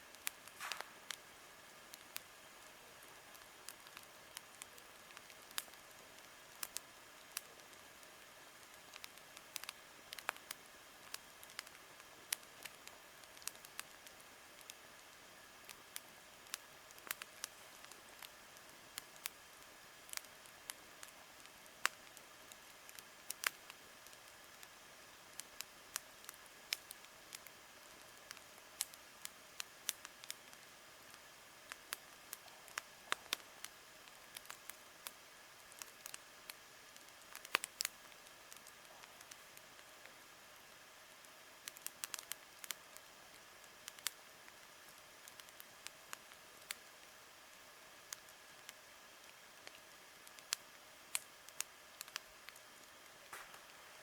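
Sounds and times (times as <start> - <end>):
campfire crackling and popping: 0.0 - 54.0
faint steady hiss: 0.0 - 54.0.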